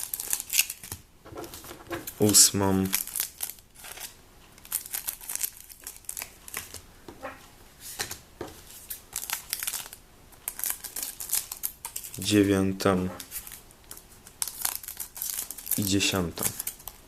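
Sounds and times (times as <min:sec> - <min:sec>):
card packet wrappers crinkling: 0:00.0 - 0:06.8, 0:08.7 - 0:12.4, 0:13.2 - 0:17.0.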